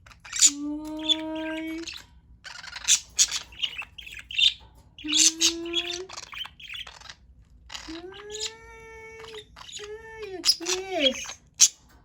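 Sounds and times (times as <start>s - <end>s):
budgerigars chirping and squawking: 0.0s - 12.0s.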